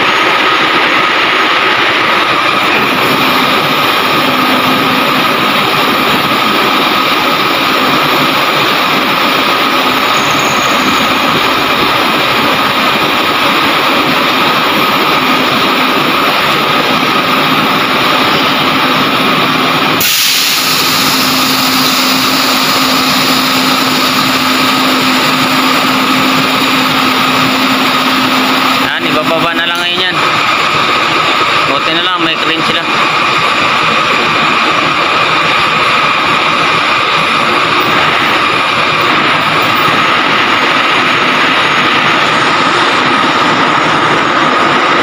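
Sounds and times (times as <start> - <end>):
crane engine humming: 0.0 - 45.0.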